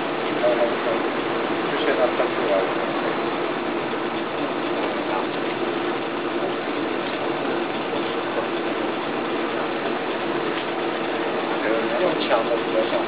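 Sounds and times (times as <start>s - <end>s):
constant hum: 0.0s - 13.0s
kiln fire roaring: 0.0s - 13.0s.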